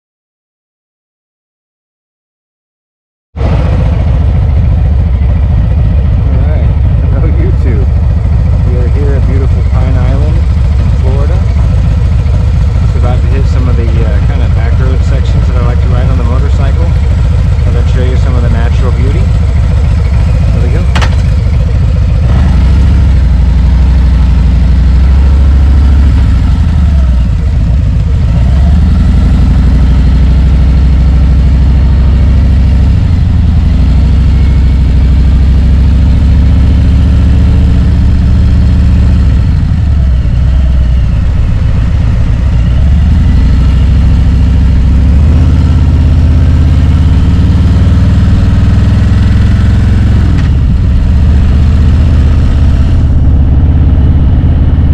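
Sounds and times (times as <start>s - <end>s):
motorcycle engine running: 3.4s - 54.9s.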